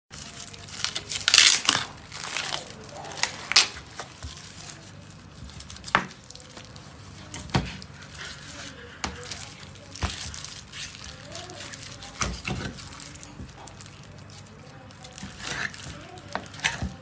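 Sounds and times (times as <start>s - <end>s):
cling film tearing and crinkling: 0.1s - 17.0s.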